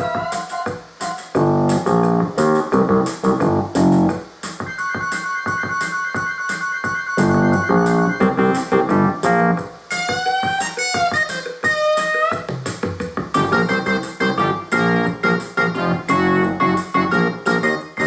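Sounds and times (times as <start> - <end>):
drum beat: 0.0 - 18.0
synthesized keyboard chords and melody: 0.0 - 18.0.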